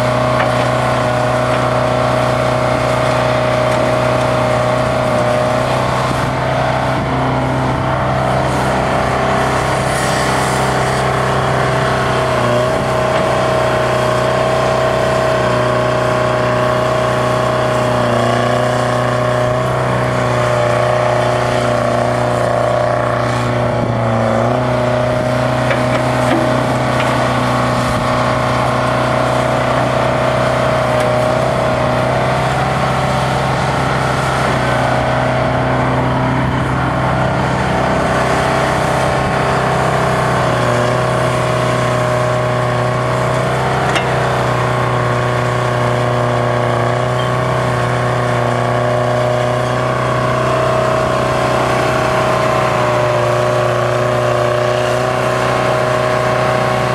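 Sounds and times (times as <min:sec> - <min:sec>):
diesel excavator engine running: 0:00.0 - 0:56.9.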